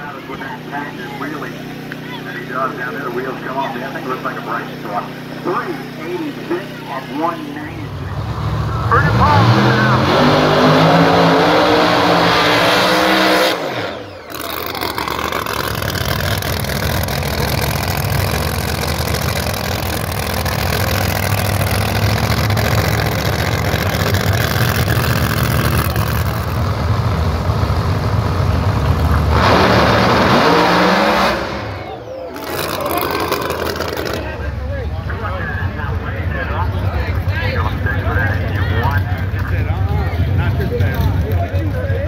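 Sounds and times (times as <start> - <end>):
drag racing engines rumbling: 0.0 - 42.0.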